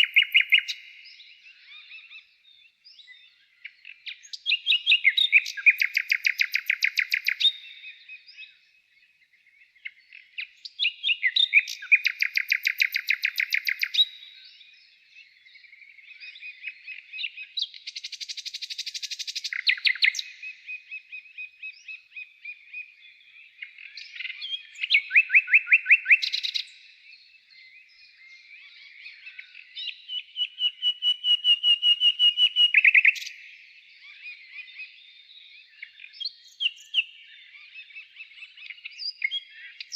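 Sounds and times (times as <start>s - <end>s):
faint bird chirps: 0.0s - 39.9s
songbird singing: 0.0s - 39.9s.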